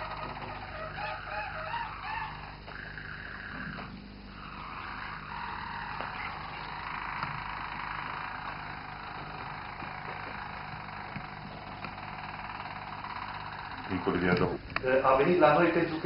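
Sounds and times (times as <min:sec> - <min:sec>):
canary singing trill: 0:00.0 - 0:14.0
faint steady hum: 0:00.0 - 0:16.0.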